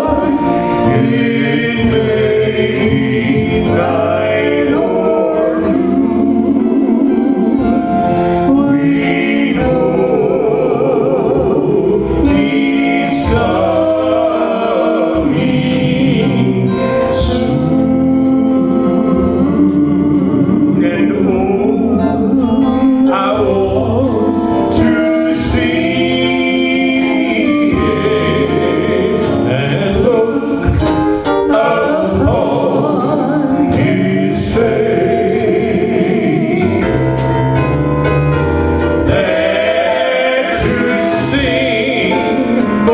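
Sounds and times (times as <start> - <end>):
group singing gospel song: 0.0 - 42.9
instrumental backing: 0.0 - 42.9
percussion strikes: 0.0 - 42.9.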